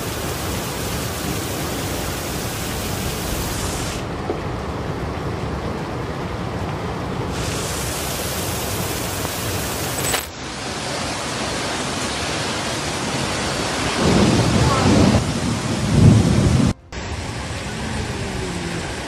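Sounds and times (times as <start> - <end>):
floodwater rushing: 0.0 - 19.0
heavy rain: 0.0 - 19.0.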